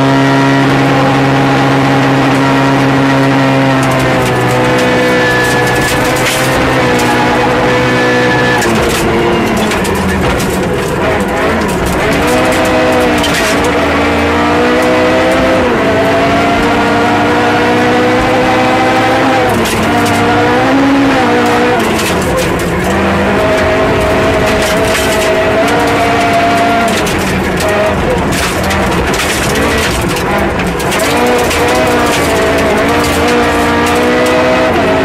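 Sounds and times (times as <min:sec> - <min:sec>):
gravel striking car: 0:00.0 - 0:35.0
rally car engine: 0:00.0 - 0:35.0.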